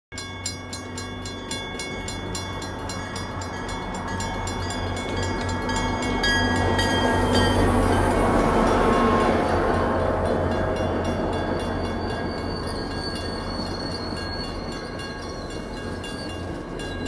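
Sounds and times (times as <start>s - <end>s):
crossing warning bell ringing: 0.1s - 17.0s
diesel locomotive engine: 0.1s - 17.0s.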